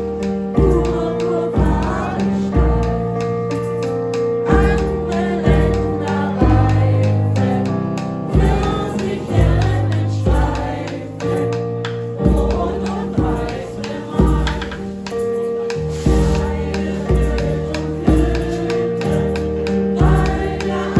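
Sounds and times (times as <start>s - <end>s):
voices singing together: 0.0s - 20.9s.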